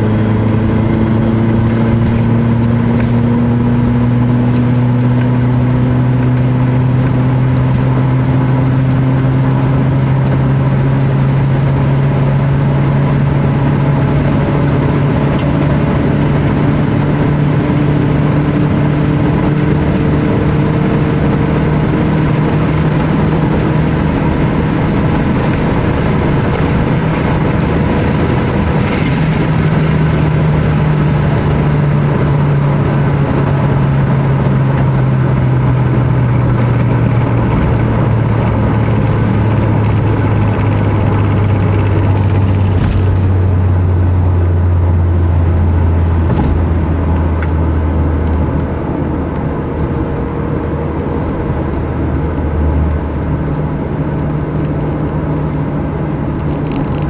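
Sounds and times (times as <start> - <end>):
car engine from inside cabin: 0.0 - 57.0
wind and road noise: 0.0 - 57.0.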